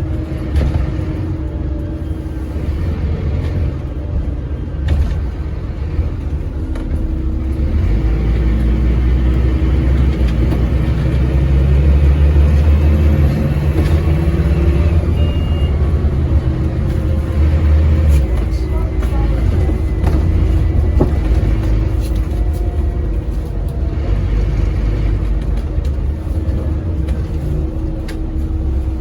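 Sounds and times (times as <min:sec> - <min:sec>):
bus diesel engine droning: 0:00.0 - 0:29.0.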